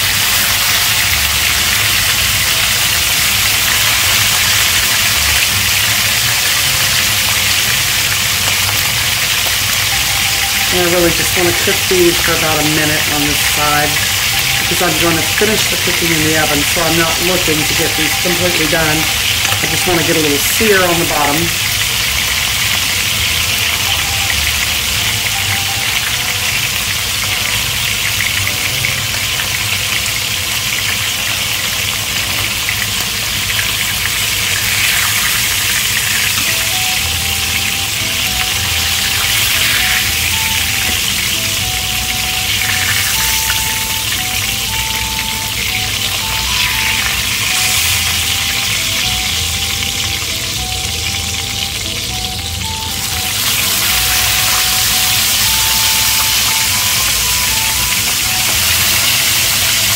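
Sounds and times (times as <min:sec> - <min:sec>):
meat sizzling in oil: 0:00.0 - 0:59.9
quiet melody: 0:00.2 - 0:59.9.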